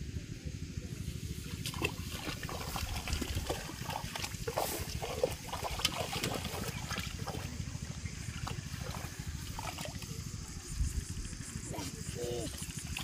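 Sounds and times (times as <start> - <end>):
muddy water splashing: 1.1 - 13.0.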